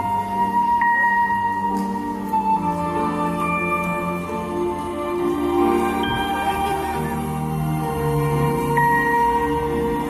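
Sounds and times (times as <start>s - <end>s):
soft ambient music: 0.0s - 10.0s.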